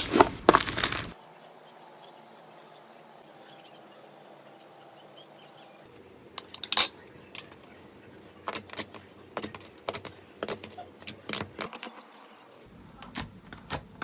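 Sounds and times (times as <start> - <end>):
faint steady background: 0.0 - 14.0.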